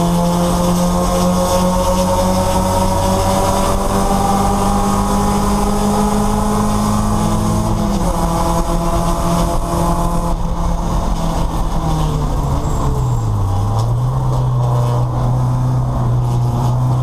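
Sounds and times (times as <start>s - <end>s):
race car engine pulling hard: 0.0s - 17.0s.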